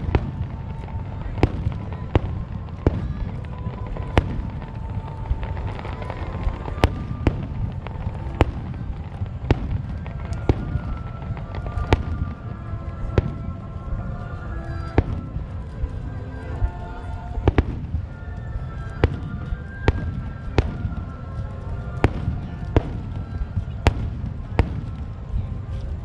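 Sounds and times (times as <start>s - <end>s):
low rumble of bursts: 0.0s - 26.0s.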